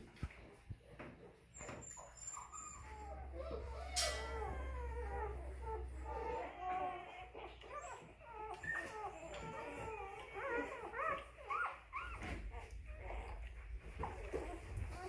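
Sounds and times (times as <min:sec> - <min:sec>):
puppies whimpering and squeaking: 0:00.5 - 0:15.0.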